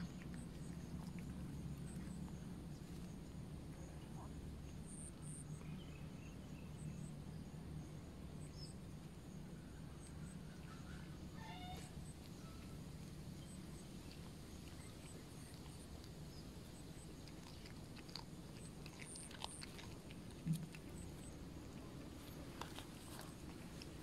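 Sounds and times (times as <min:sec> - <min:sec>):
cat chewing prey: 0:00.0 - 0:07.0, 0:08.9 - 0:24.0.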